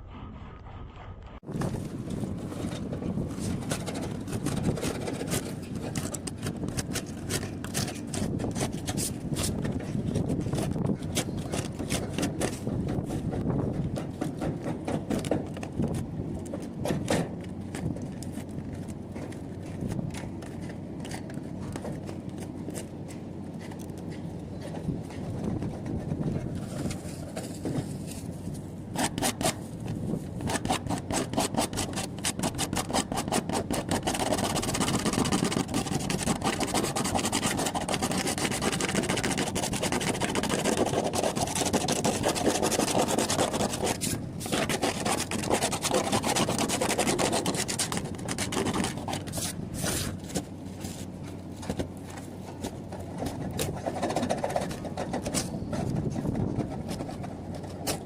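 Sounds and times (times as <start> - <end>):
hand tool scraping a surface: 2.1 - 17.1, 23.6 - 29.7, 30.3 - 58.0.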